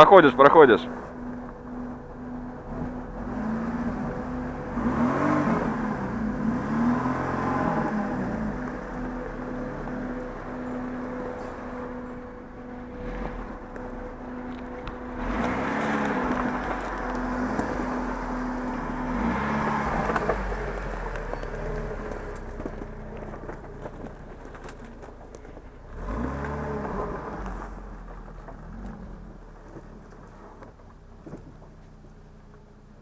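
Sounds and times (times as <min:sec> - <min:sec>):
off-road vehicle engine revving: 0:00.0 - 0:33.0
tyre and ground noise: 0:00.0 - 0:33.0.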